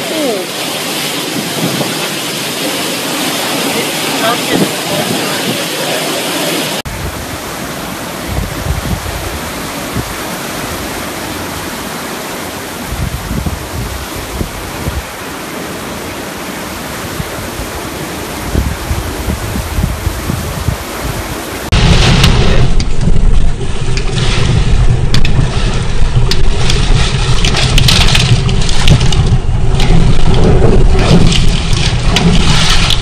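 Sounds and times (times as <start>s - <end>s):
strong wind rushing: 0.8s - 11.8s, 12.8s - 15.3s, 16.7s - 33.0s
wind buffeting microphone: 1.0s - 15.7s, 16.6s - 33.0s.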